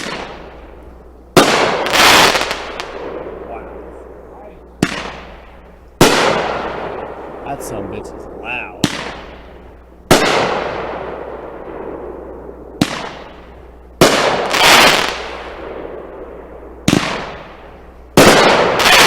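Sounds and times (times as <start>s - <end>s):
firework bangs echoing: 0.0s - 19.0s.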